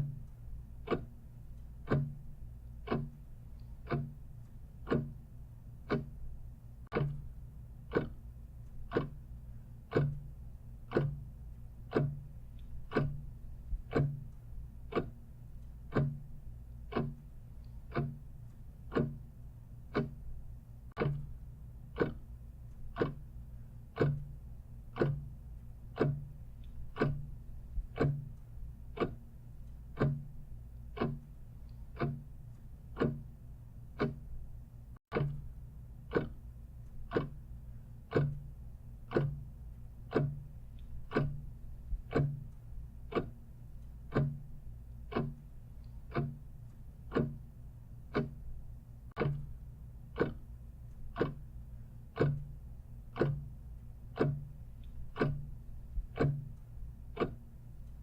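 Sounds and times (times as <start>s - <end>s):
clock ticking: 0.0s - 58.0s
faint low hum: 0.0s - 58.0s.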